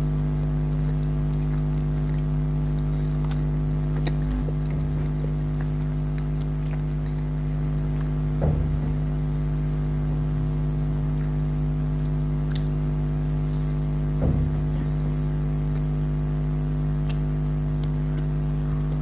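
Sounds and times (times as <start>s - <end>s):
soft eating noise: 0.0s - 19.0s
steady low electrical hum: 0.0s - 19.0s.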